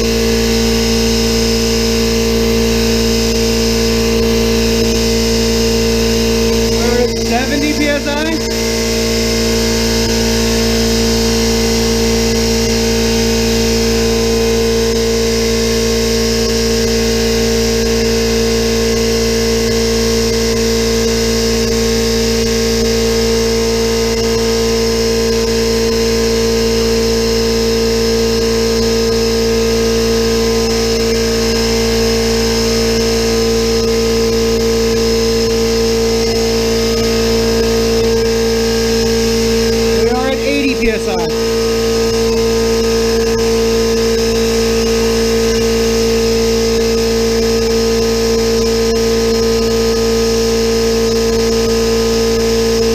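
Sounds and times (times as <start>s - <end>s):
air compressor humming: 0.0s - 52.9s.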